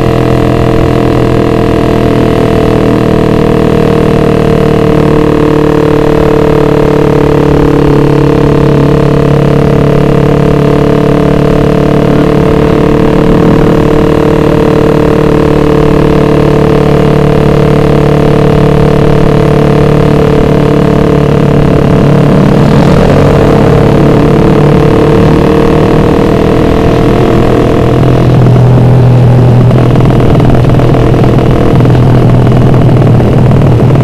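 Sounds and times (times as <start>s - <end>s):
motorcycle engine cruising: 0.0s - 34.0s.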